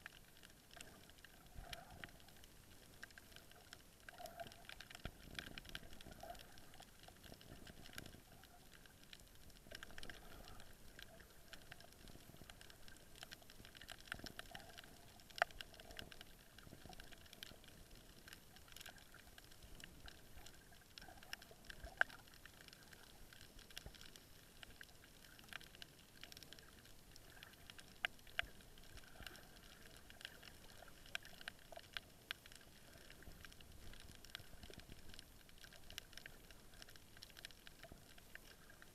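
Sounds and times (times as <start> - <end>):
faint steady hiss: 0.0 - 38.9
underwater crackle of clicks: 0.0 - 38.9.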